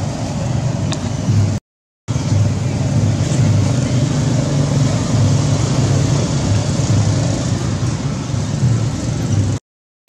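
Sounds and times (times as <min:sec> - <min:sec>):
low engine rumble with hiss: 0:00.0 - 0:09.6.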